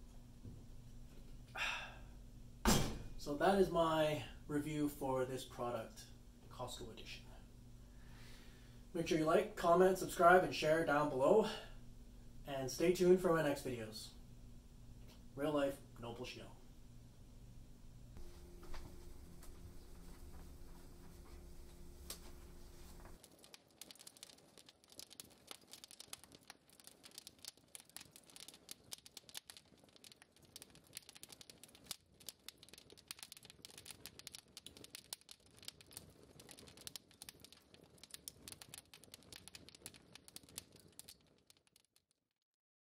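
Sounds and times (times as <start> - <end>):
wood fire crackling: 7.7 - 42.1.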